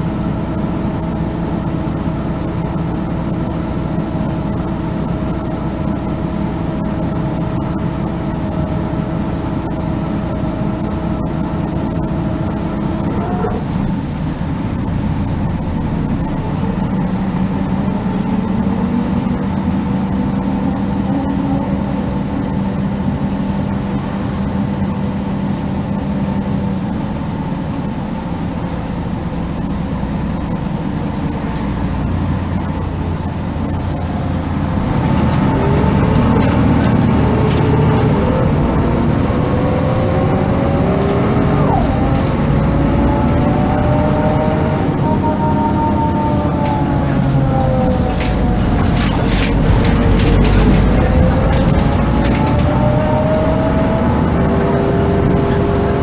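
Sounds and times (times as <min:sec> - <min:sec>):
bus diesel engine running: 0:00.0 - 0:56.0
engine and driveline whine: 0:00.0 - 0:56.0.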